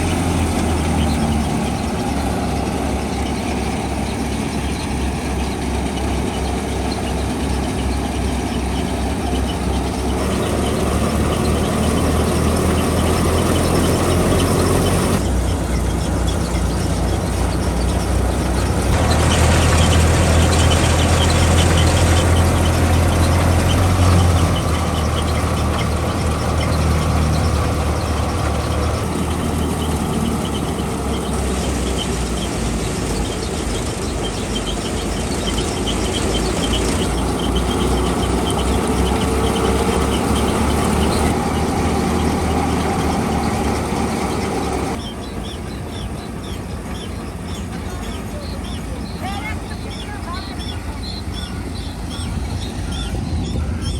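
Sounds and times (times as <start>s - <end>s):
threshing machinery rattle: 0.0s - 53.9s
tractor engine drone: 0.0s - 53.9s.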